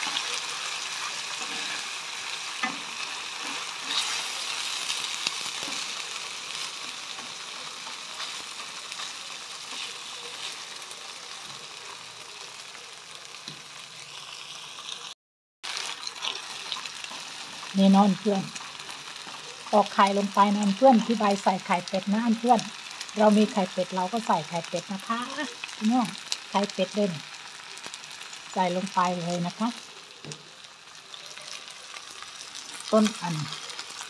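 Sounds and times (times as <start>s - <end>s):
rice sizzling in a wok: 0.0s - 34.0s.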